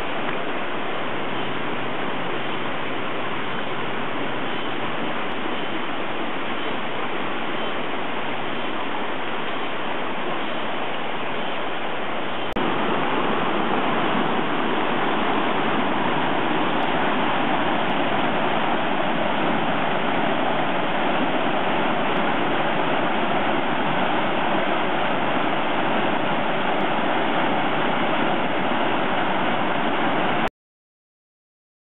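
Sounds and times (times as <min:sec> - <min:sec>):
flood water rushing: 0:00.0 - 0:30.5.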